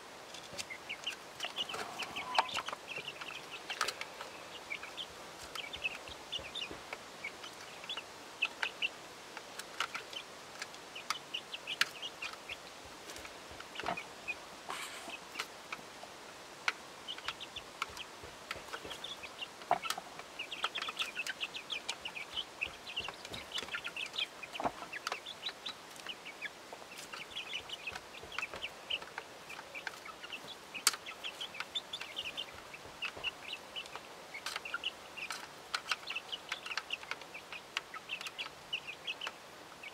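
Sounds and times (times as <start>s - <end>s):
beaks pecking food tray: 0.2s - 39.9s
chicks clucking and chirping: 0.3s - 16.0s, 16.6s - 39.9s.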